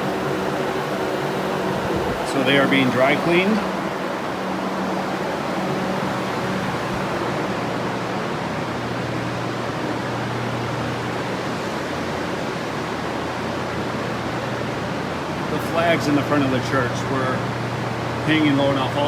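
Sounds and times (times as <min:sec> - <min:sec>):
fans rushing noise: 0:00.0 - 0:19.0.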